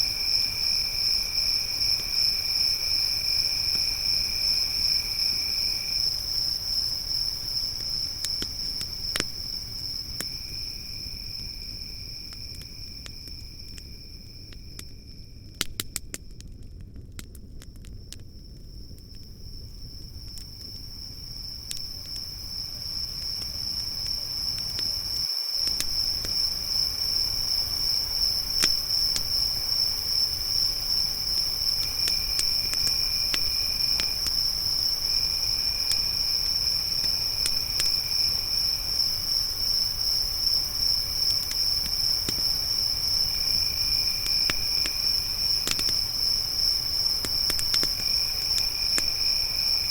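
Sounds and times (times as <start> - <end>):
campfire crackling and popping: 0.0 - 49.9
crickets chirping: 0.0 - 49.9
lower insect trill: 0.0 - 49.9.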